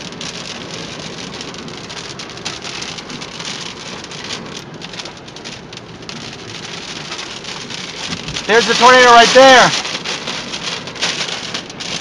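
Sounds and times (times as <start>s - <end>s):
rain drops hitting a surface: 0.0s - 12.0s.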